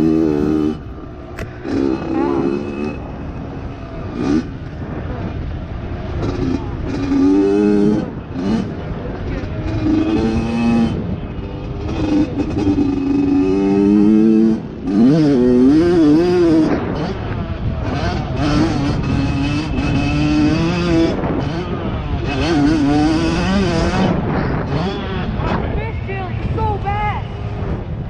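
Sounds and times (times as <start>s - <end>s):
dirt bike engine revving: 0.0s - 25.7s.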